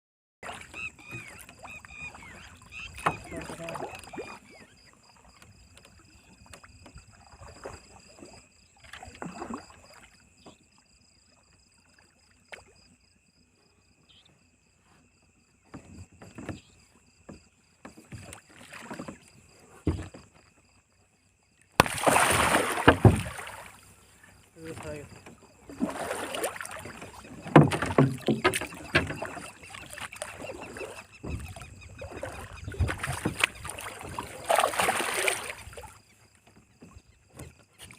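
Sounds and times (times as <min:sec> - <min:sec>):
water splashing and sloshing: 0:00.4 - 0:37.9.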